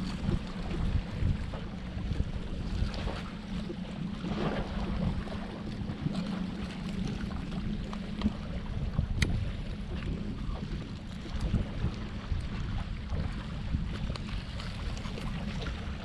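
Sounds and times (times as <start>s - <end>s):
steady low hum: 0.0s - 16.0s
wind on microphone: 0.0s - 16.0s.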